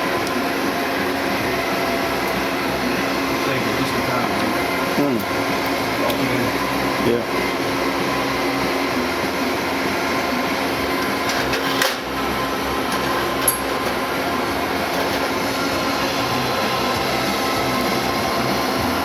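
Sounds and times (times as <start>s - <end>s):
hydraulic pump motor running: 0.0s - 19.0s.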